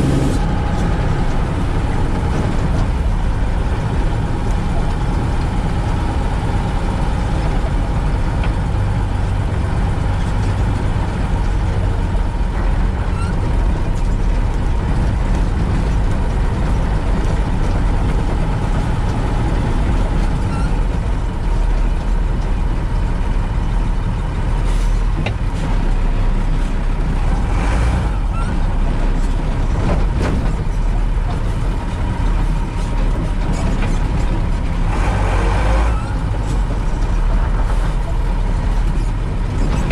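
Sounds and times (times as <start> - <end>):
diesel truck engine running: 0.0 - 39.9
tyres on gravel track: 0.0 - 39.9.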